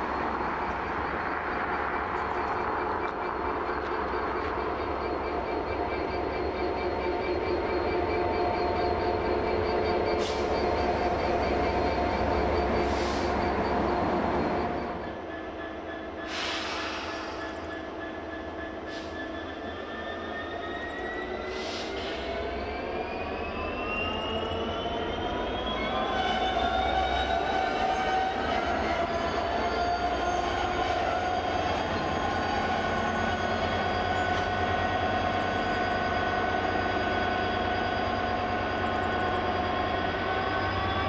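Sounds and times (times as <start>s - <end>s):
diesel locomotive whine: 0.0s - 41.0s
wheels squealing: 1.4s - 41.0s.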